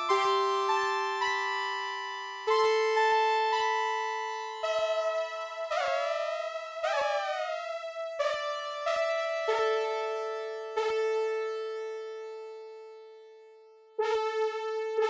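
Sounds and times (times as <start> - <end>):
synthesizer chords: 0.0 - 12.4.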